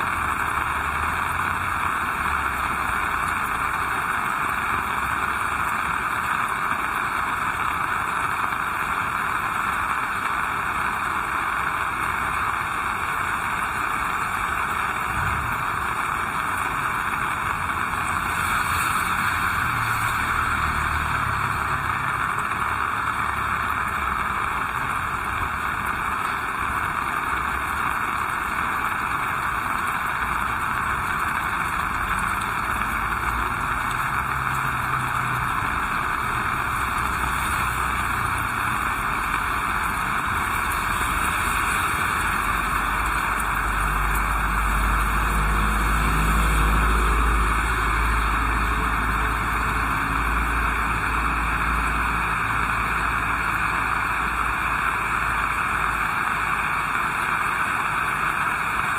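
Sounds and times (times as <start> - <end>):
heavy rain hissing: 0.0 - 58.9.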